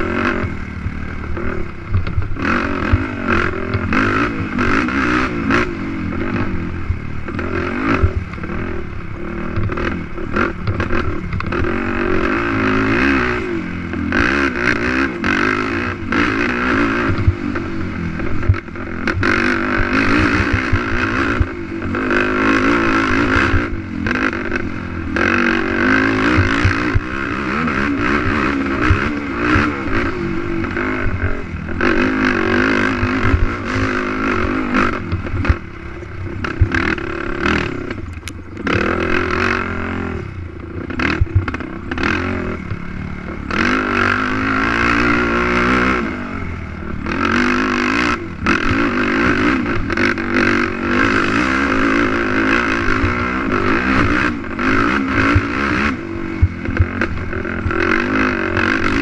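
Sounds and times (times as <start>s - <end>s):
knocks over rough track: 0.0s - 59.0s
quad engine revving: 0.0s - 59.0s.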